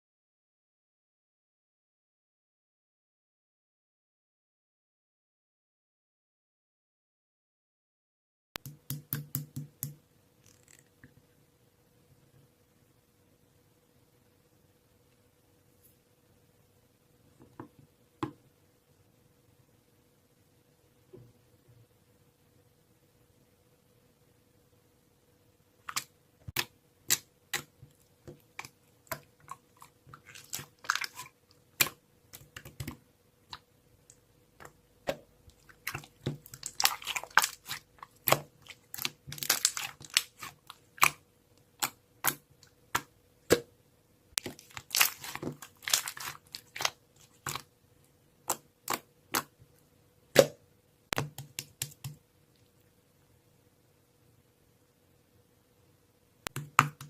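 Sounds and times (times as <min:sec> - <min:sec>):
faint steady hum: 0:08.6 - 0:57.0.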